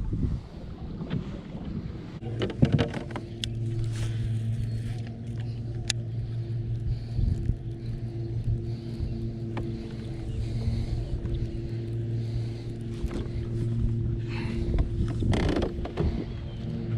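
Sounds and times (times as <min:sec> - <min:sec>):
low motor hum: 0:00.0 - 0:16.9.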